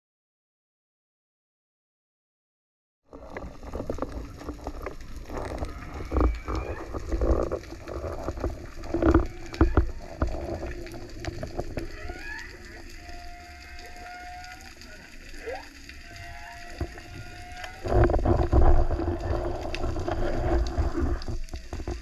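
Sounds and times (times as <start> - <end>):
underwater rumble of moving water: 3.1 - 22.0.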